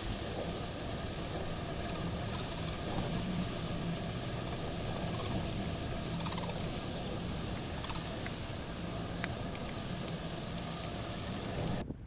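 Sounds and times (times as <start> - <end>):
low steady hum: 0.0 - 12.0
strong wind buffeting car: 0.0 - 12.0.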